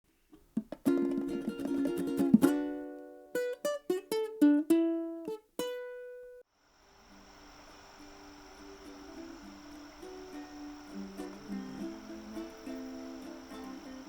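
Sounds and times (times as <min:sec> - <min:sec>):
plucked string instrument: 0:00.3 - 0:06.4, 0:08.2 - 0:14.0.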